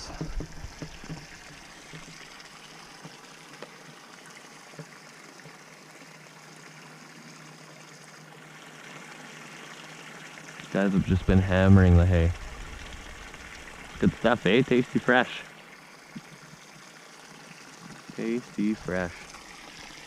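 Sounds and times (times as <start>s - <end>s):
water running in a stream: 0.0s - 20.0s.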